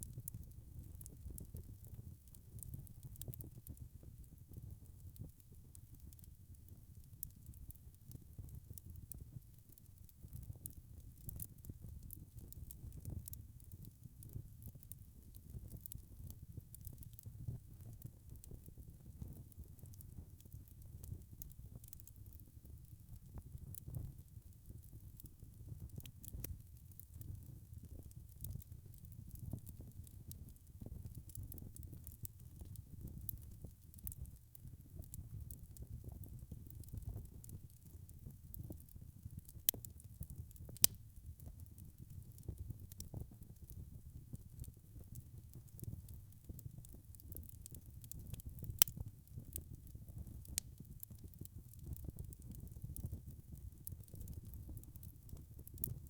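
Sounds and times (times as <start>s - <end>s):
low rumble of flame: 0.0s - 56.0s
wood fire crackling: 0.0s - 56.0s.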